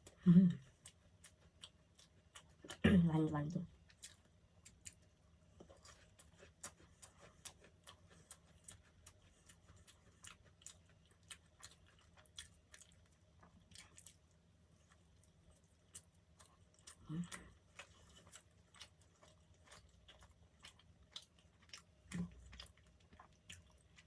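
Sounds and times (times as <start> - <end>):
chewing soft food: 0.0 - 2.8, 3.6 - 24.0.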